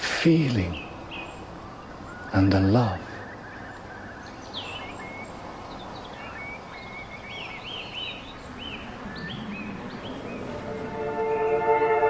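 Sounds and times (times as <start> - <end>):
outdoor ambience hiss: 0.0 - 12.0
songbirds chirping: 0.0 - 12.0.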